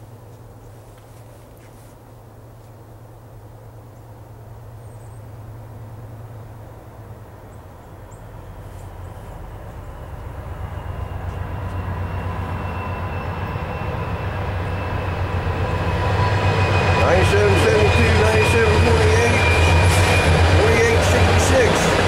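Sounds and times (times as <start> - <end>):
diesel locomotive engine drone: 2.2 - 22.0.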